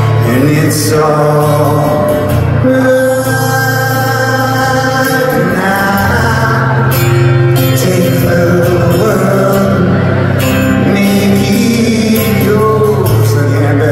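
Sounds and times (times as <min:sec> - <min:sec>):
acoustic guitar: 0:00.0 - 0:13.9
man singing: 0:00.0 - 0:13.9.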